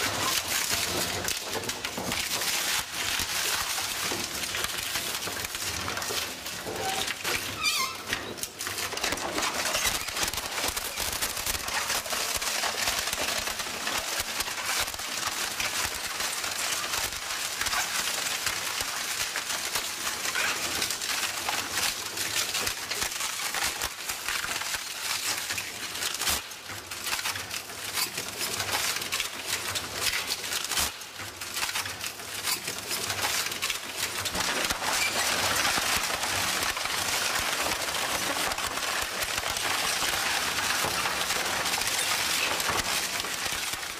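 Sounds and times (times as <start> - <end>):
crushing machine cracking material: 0.0 - 43.9.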